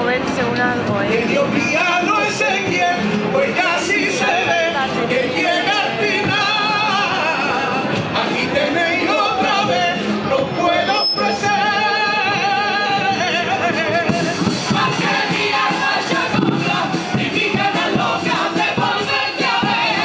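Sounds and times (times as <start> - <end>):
male chorus singing: 1.1 - 20.0.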